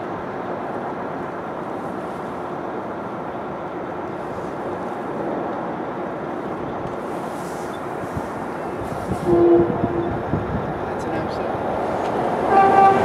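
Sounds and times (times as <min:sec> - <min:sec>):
distant rail and road traffic: 0:00.0 - 0:13.0.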